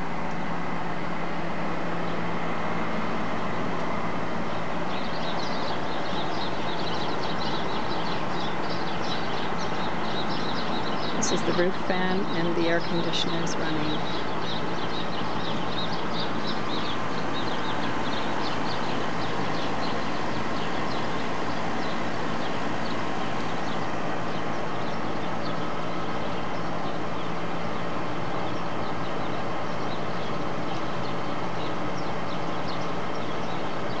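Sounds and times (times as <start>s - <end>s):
air conditioner whooshing hum: 0.0s - 34.0s
birds chirping: 0.0s - 34.0s.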